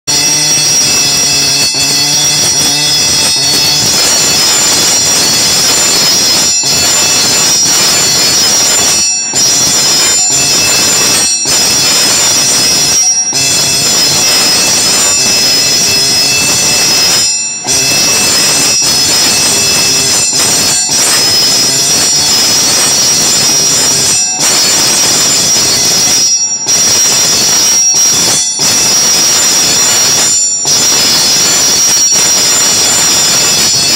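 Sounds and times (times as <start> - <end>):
marking machine stylus hammering metal: 0.1 - 33.9.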